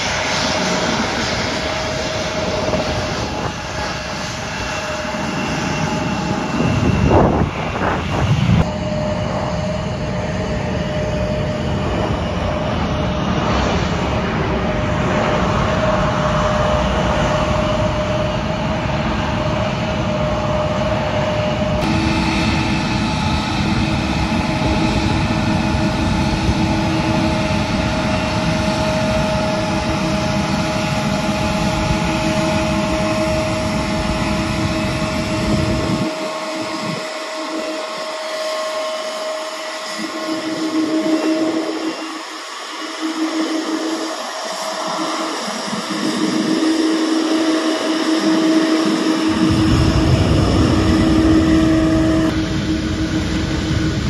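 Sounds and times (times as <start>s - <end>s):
jet engines taxiing: 0.0s - 54.0s
jet flying low: 0.0s - 54.0s.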